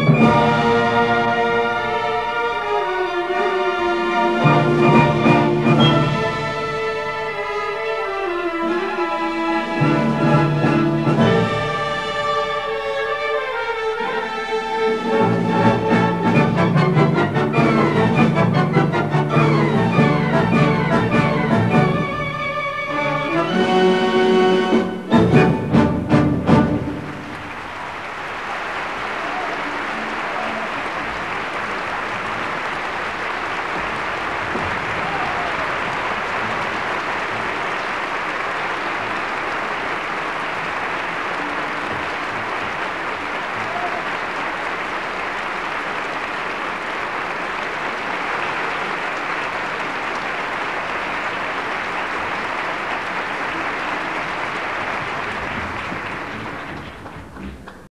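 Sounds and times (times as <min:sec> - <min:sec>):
audience applauding: 0:00.0 - 0:57.9.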